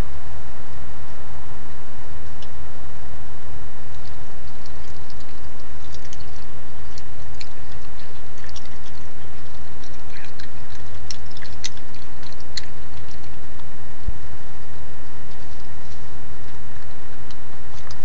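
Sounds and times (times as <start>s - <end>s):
camera recording hum and hiss: 0.0s - 18.0s
raccoon eating clicks: 2.2s - 2.6s, 3.8s - 18.0s.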